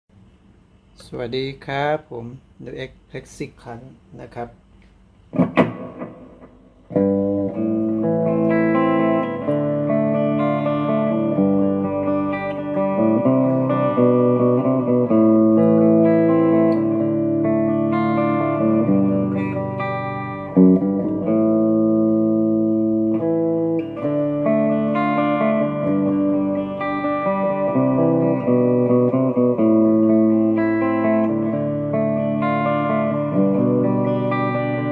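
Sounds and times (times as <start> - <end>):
overdriven electric guitar chords: 5.3 - 34.9.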